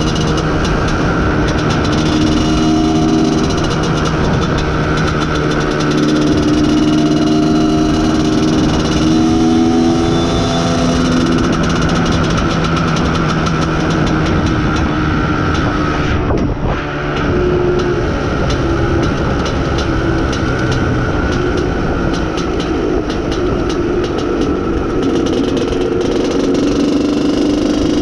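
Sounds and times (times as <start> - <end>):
two-stroke motorcycle engine: 0.0 - 28.0.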